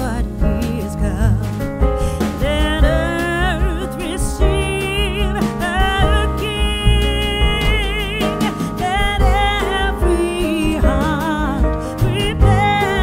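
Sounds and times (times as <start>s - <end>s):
instrumental music with bass: 0.0s - 13.0s
person singing with vibrato: 2.2s - 13.0s.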